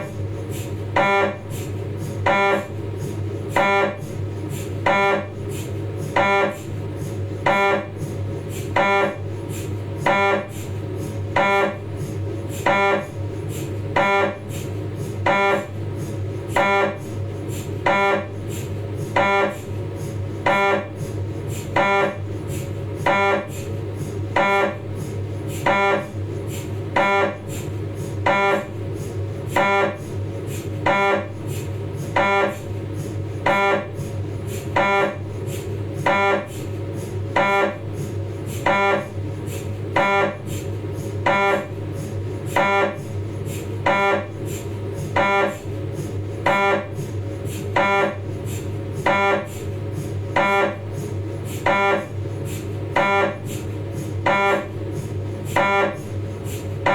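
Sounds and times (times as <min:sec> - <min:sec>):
mri scanner hum: 0:00.0 - 0:56.9.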